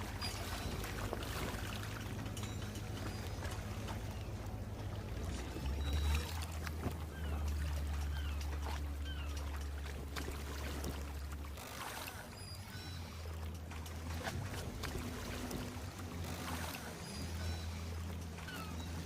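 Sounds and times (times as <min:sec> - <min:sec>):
ambient canal-side noise: 0:00.0 - 0:19.0
motorboat engine drone: 0:00.0 - 0:19.0.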